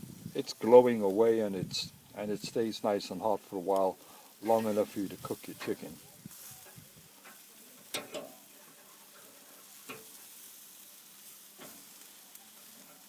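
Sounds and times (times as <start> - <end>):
chicken sizzling on a grill: 0.0 - 13.0
wood fire crackles: 0.0 - 13.0.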